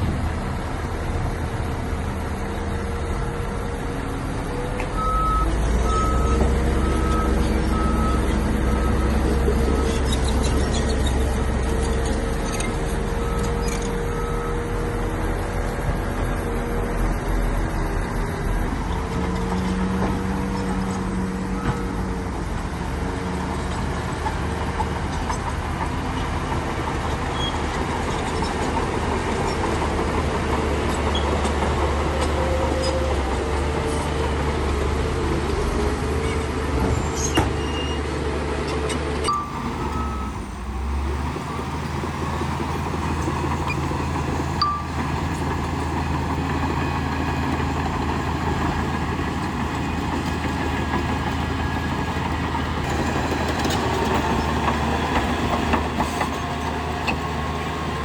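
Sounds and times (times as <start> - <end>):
heavy diesel machinery rumbling: 0.0 - 58.0.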